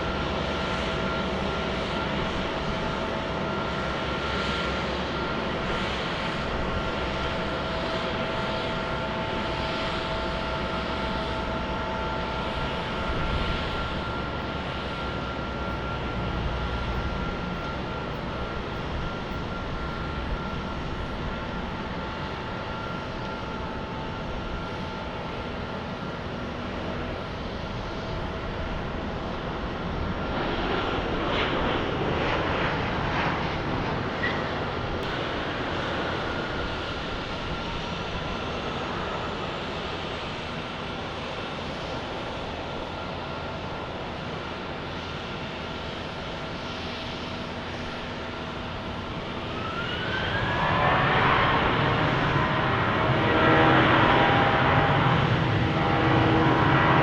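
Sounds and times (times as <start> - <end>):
high engine whine: 0.0 - 57.0
jet engines rushing: 0.0 - 57.0.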